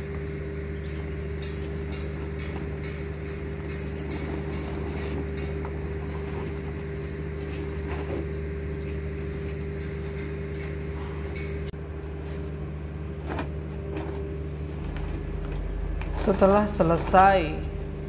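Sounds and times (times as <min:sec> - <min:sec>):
low mechanical engine hum: 0:00.0 - 0:18.0.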